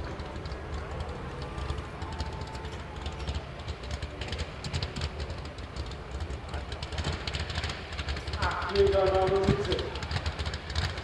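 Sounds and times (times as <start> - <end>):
large engine rumbling: 0.0 - 11.0.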